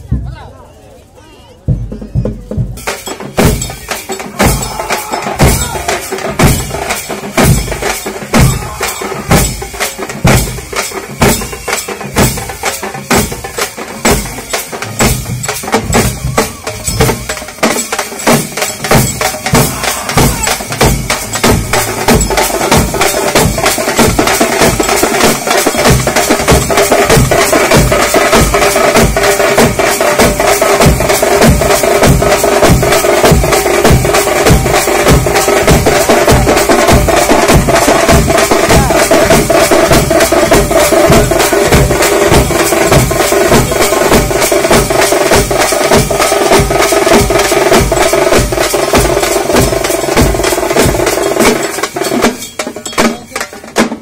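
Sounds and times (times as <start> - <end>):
drums in driving rhythm: 0.0 - 0.5, 1.6 - 54.0.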